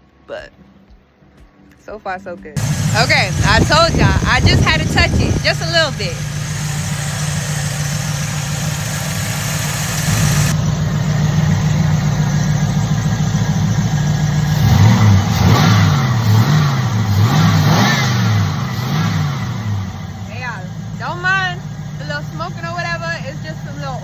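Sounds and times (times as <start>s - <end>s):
car engine idling and revving: 2.6s - 24.0s.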